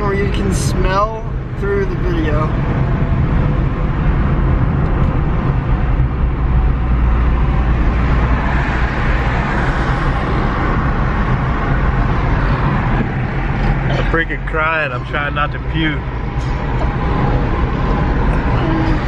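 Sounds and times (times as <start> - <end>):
road rumble inside moving car: 0.0 - 19.0.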